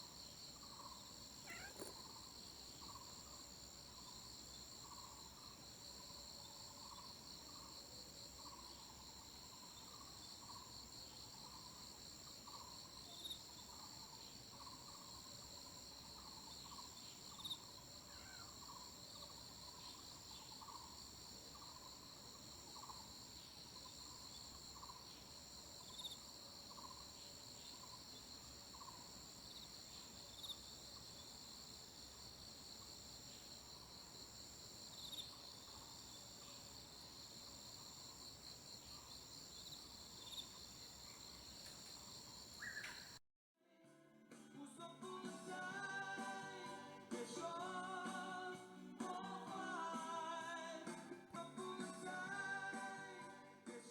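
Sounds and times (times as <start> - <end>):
insects trilling: 0.0 - 43.2.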